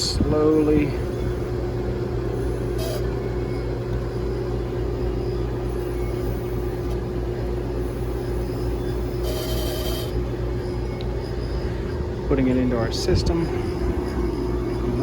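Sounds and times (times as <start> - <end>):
heat pump unit humming: 0.0 - 15.0.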